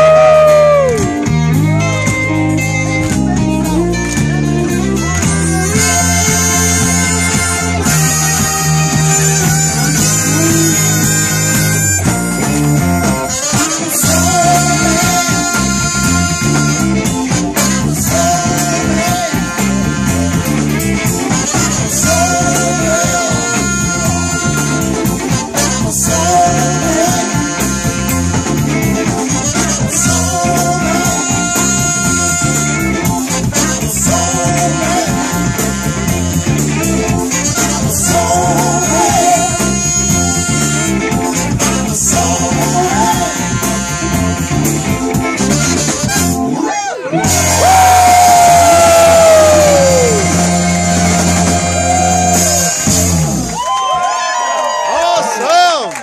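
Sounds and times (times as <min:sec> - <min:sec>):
blues-rock band playing: 0:00.0 - 0:54.9.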